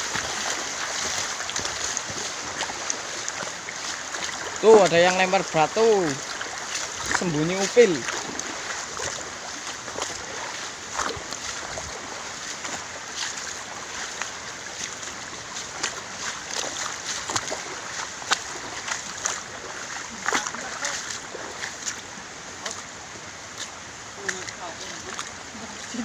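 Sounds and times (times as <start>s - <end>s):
short splashes and knocks: 0.0s - 15.0s, 15.6s - 22.0s
river water rushing: 0.0s - 26.0s.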